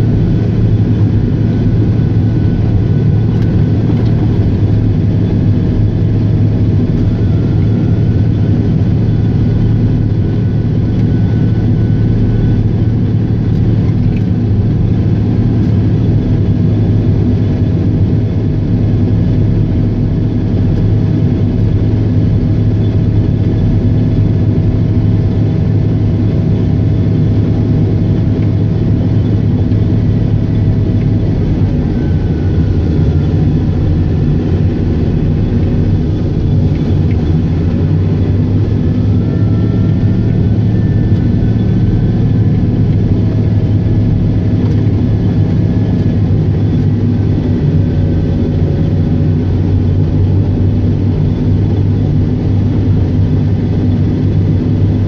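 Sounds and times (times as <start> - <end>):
diesel engine droning: 0.0 - 55.0
faint steady whine: 0.0 - 55.0.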